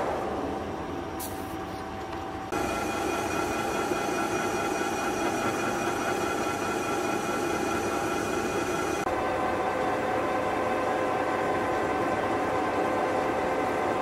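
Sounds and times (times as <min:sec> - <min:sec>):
lathe gearing whine: 0:00.0 - 0:14.0.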